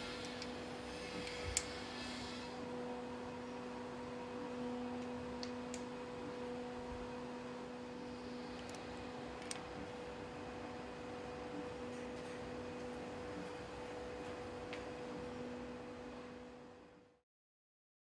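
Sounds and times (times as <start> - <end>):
steady two-tone hum: 0.0 - 17.2.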